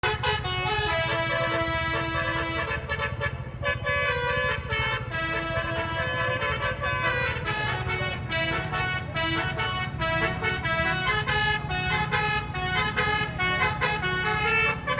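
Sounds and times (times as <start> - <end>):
musical bus horn playing a tune: 0.0 - 14.9.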